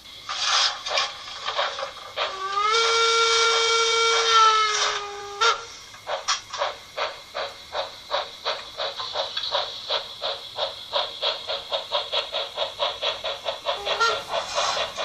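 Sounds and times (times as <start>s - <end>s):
model train steam chuffs: 0.0s - 15.0s.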